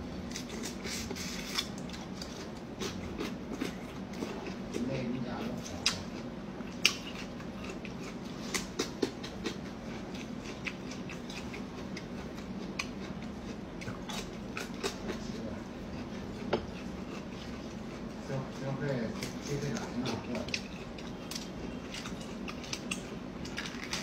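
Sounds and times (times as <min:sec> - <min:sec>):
low steady hum: 0:00.0 - 0:24.0
chewing: 0:00.3 - 0:24.0.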